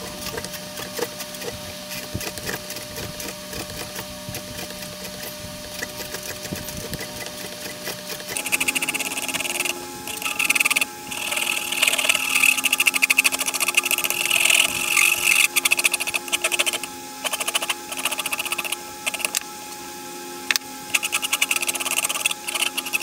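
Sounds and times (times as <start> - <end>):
file rasping on wood: 0.0 - 19.4, 20.9 - 23.0.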